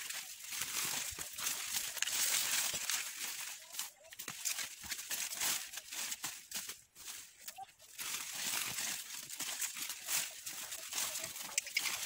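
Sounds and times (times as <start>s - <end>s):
dry corn leaves rustling: 0.0s - 12.0s.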